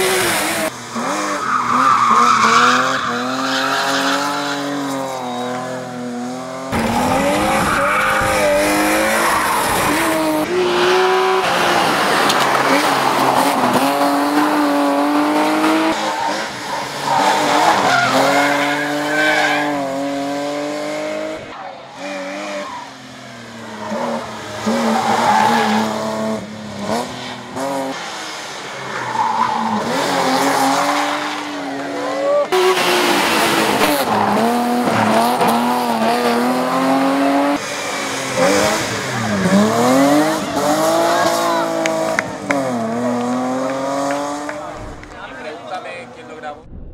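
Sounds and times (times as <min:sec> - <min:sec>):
race car engine revving: 0:00.0 - 0:45.4.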